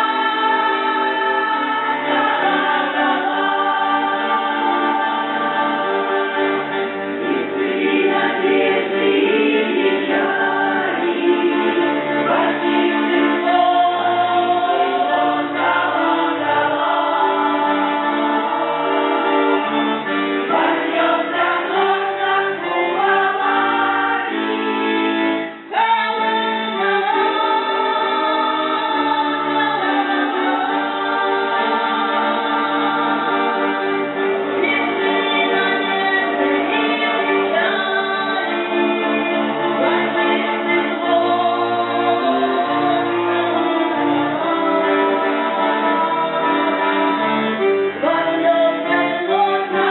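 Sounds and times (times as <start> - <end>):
folk choir singing: 0.0 - 49.9.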